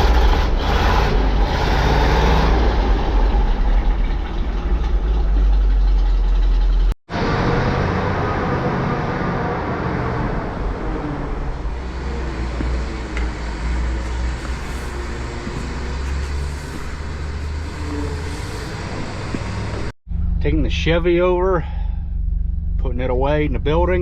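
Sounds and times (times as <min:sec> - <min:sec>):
vehicle engine running: 0:02.6 - 0:24.0.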